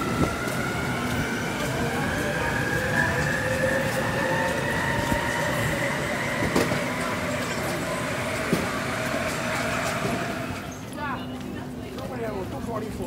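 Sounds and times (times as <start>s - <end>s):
train running noise: 0.0s - 13.0s
wheels clacking on rails: 0.0s - 13.0s.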